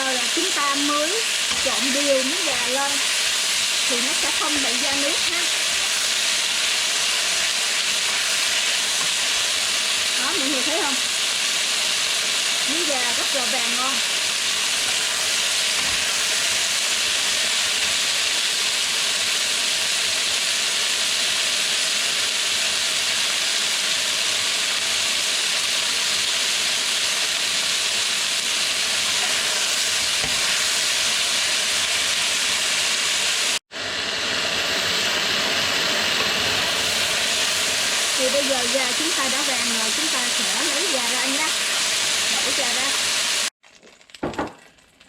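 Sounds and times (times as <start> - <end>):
chicken frying in hot oil: 0.0 - 45.0.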